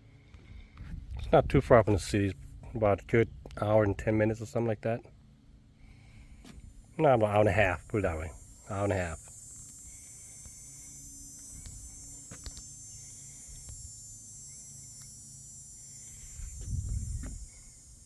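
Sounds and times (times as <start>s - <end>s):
insects chirring: 1.7s - 18.0s.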